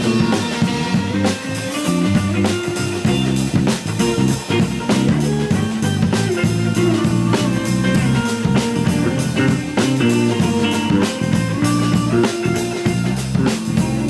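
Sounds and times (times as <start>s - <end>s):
drum kit beat: 0.0s - 14.0s
electric bass line: 0.0s - 14.0s
electric guitar: 0.0s - 14.0s.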